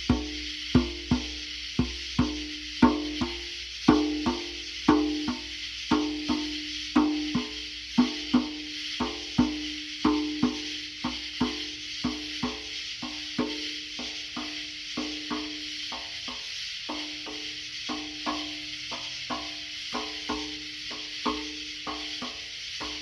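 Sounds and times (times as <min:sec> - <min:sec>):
hand drum strokes: 0:00.0 - 0:23.0
night insects hissing: 0:00.0 - 0:23.0.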